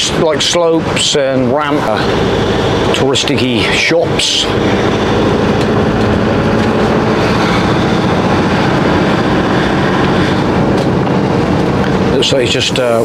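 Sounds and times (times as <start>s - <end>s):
engine running: 0.0s - 13.0s
road and tyre noise: 0.0s - 13.0s.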